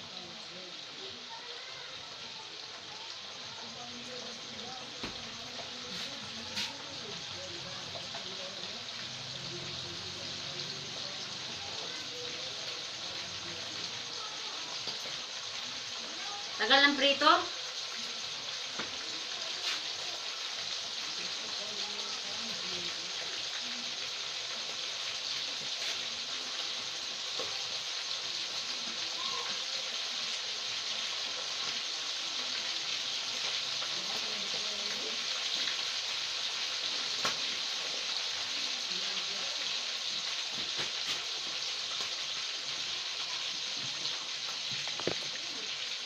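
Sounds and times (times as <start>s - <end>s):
oil sizzling in a pan: 0.0s - 46.0s.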